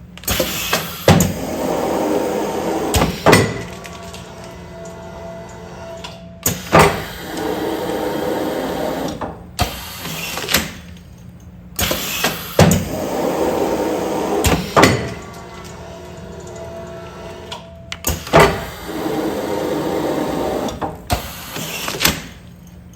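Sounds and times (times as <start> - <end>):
sealing machine running: 0.2 - 10.9, 11.8 - 22.5.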